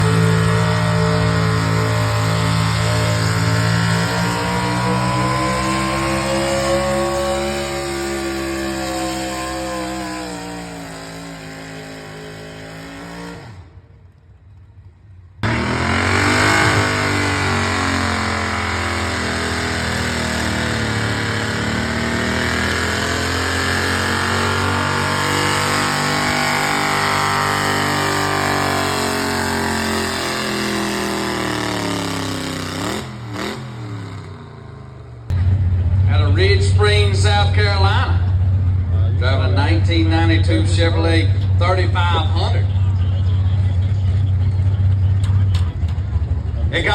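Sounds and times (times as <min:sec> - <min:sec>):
pulling truck engine revving: 0:00.0 - 0:46.9.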